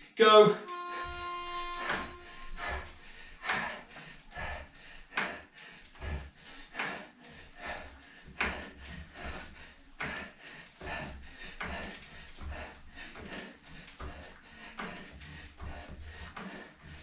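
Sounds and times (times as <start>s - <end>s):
man breathing hard: 1.0s - 17.0s.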